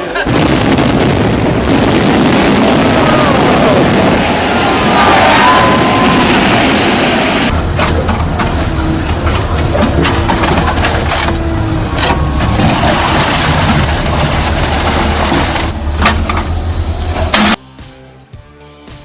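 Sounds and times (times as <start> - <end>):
falling debris crashes: 0.0 - 17.6
building collapsing rumble: 0.2 - 17.6.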